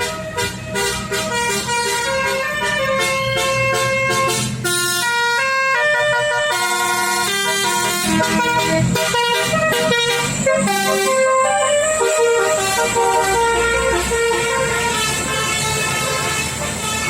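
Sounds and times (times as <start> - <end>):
horn playing a tune: 0.0 - 17.0.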